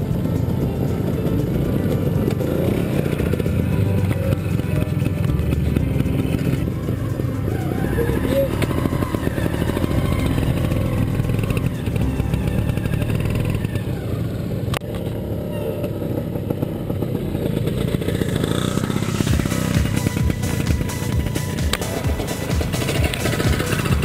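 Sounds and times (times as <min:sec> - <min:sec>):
motorcycles running at low revs: 0:00.0 - 0:24.0.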